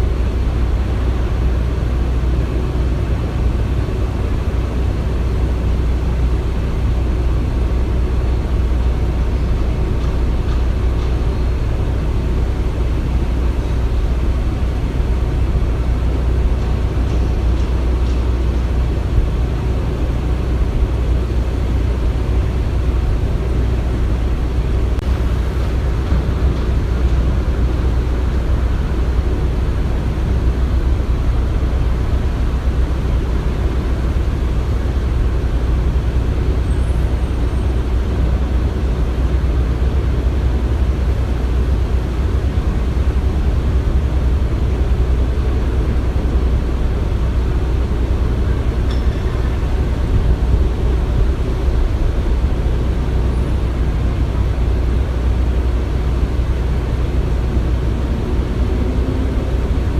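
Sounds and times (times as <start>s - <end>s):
low rumble of machinery: 0.0s - 59.9s.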